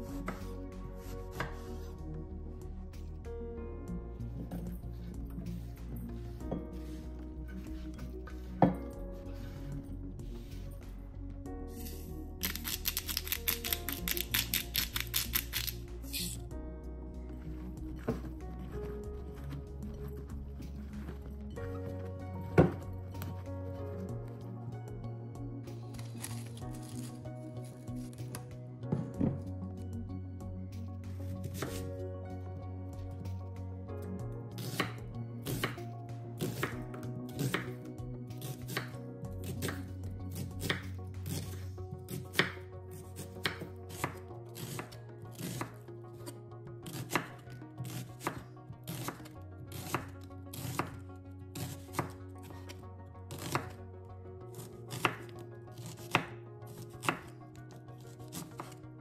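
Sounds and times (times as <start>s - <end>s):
soft background music: 0.0s - 59.0s.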